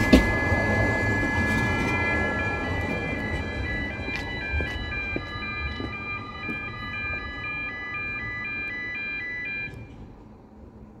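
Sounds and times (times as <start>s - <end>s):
level crossing alarm warbling: 0.0s - 10.0s.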